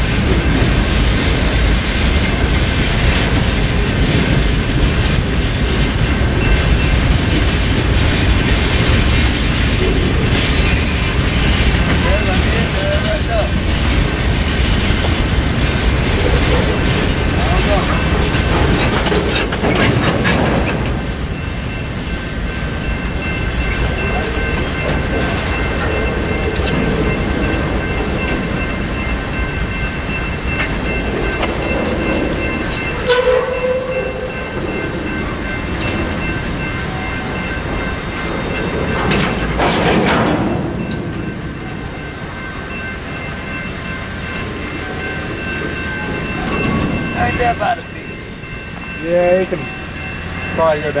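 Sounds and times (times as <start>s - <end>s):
crossing warning bells: 0.0s - 51.0s
freight train rumbling: 0.0s - 51.0s
steel wheels clacking on rail joints: 0.0s - 51.0s.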